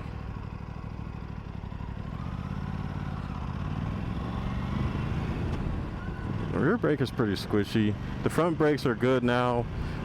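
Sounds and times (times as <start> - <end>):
motorcycle engine riding: 0.0 - 10.0.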